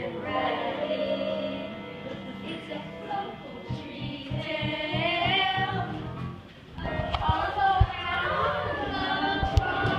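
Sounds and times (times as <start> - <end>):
chorus singing a show tune: 0.0 - 6.0, 6.8 - 9.9.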